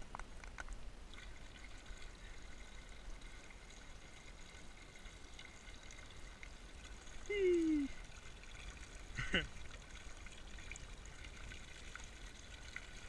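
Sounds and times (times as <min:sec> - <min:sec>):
water trickling into ice hole: 0:01.0 - 0:13.0.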